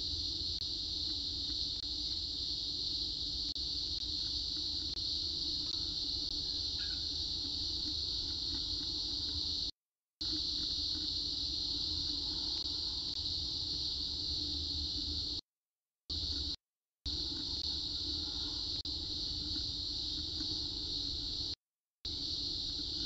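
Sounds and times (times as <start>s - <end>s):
cicadas calling: 0.0s - 15.4s, 16.1s - 23.0s.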